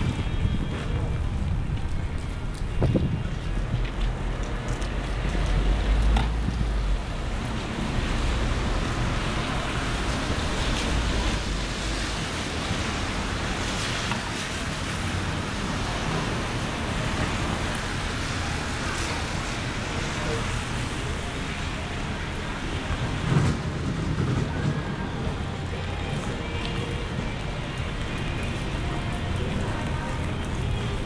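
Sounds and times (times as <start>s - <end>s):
heavy rain on street: 0.0s - 31.0s.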